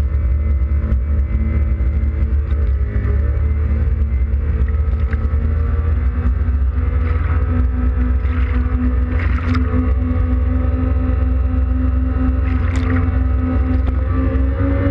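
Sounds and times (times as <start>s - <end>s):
jet ski engine running: 0.0s - 14.9s
water noise: 0.0s - 14.9s.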